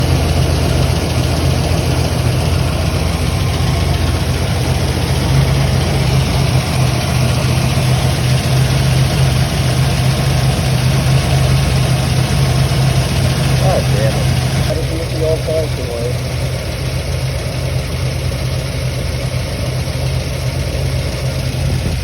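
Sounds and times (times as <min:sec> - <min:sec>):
car engine idling with misfire: 0:00.0 - 0:22.0.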